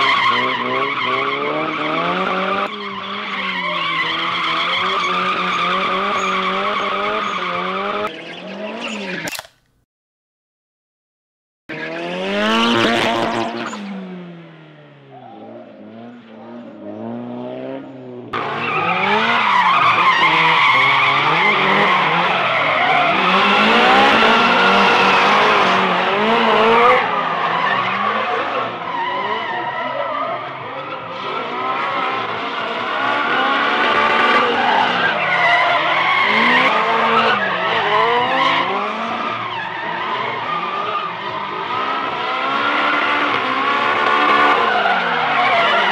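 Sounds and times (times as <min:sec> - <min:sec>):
car engines revving: 0:00.0 - 0:09.3, 0:11.7 - 0:45.9
tyres squealing and skidding: 0:00.0 - 0:09.4, 0:11.7 - 0:17.6, 0:18.3 - 0:45.9.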